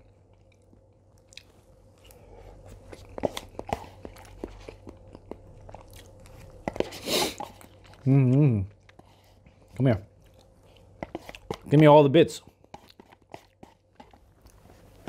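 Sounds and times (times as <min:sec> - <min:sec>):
person chewing noodles: 0:00.0 - 0:11.8, 0:12.5 - 0:15.0.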